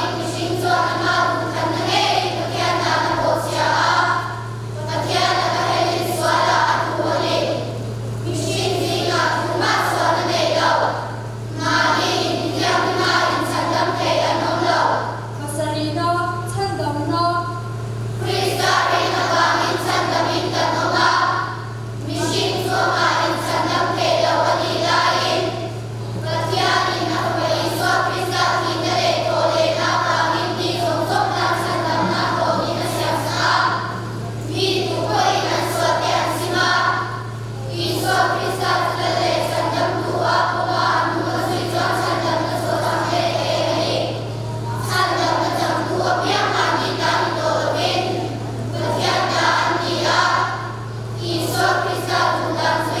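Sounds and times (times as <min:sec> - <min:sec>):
children's choir singing: 0:00.0 - 0:15.3, 0:18.1 - 0:53.0.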